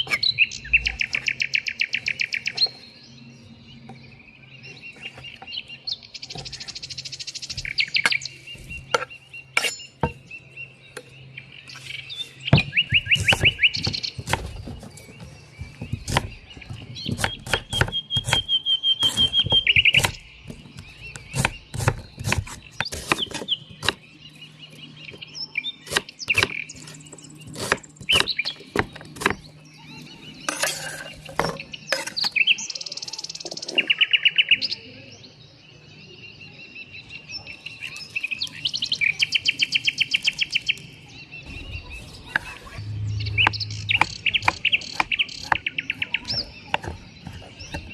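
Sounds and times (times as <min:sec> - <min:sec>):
songbirds chirping: 0:00.0 - 0:47.9.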